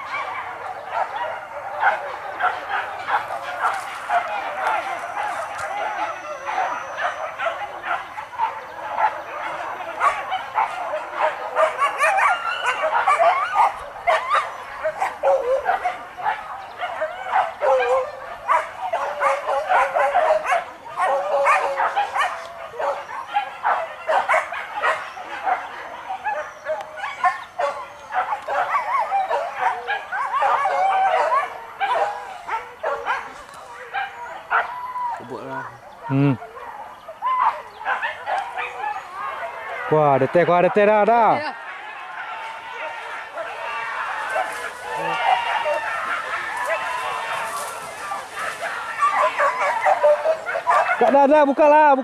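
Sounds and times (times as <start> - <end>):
dogs yelping and baying: 0.0 - 51.7.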